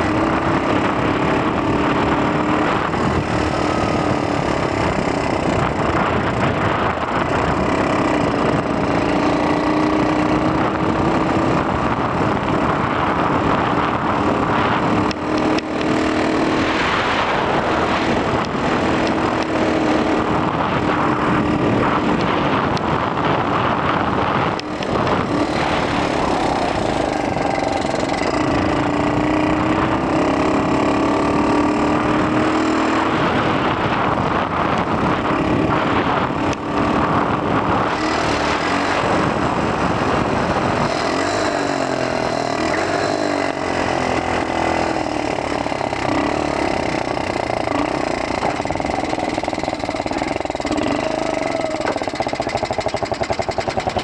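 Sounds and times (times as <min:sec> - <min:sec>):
small two-stroke engine running: 0:00.0 - 0:54.0
wind rushing over microphone: 0:00.0 - 0:54.0.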